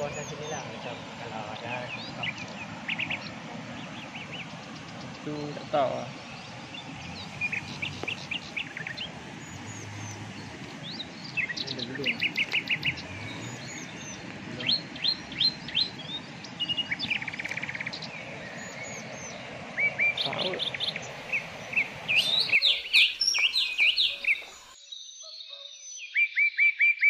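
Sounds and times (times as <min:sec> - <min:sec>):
birds chirping and trilling: 0:00.0 - 0:27.0.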